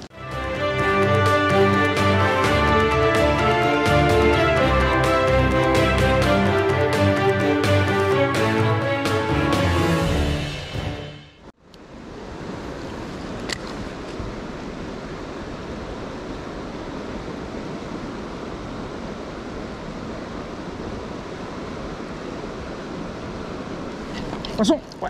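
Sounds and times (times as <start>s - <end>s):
river flowing: 0.0s - 25.0s.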